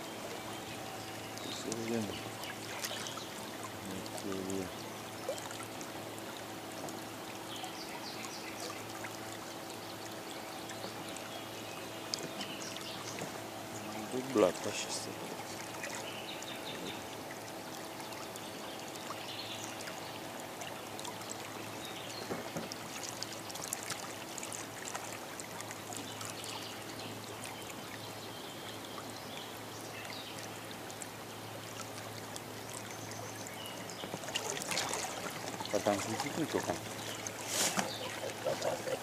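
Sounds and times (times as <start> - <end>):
low steady hum: 0.0 - 39.0
small waves lapping: 0.0 - 39.0.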